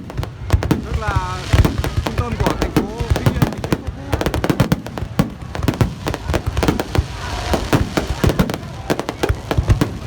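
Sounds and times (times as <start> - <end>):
fireworks bangs and cracks: 0.0 - 10.0
fireworks crackling: 0.0 - 10.0.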